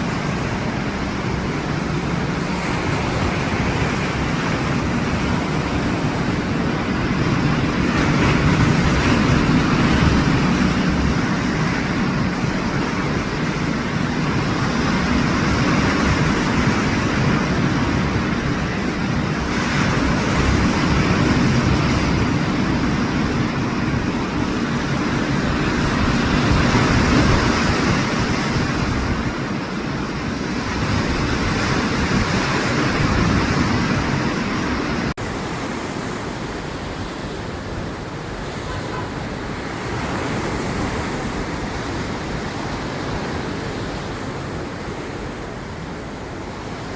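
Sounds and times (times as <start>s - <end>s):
sea surf washing ashore: 0.0s - 46.9s
wind buffeting microphone: 0.0s - 46.9s.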